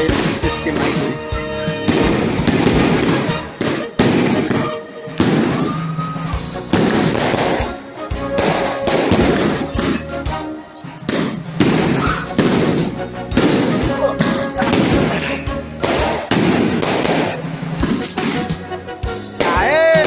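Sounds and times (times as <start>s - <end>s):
fireworks bangs with crackling: 0.0s - 20.0s
music playing: 0.0s - 20.0s.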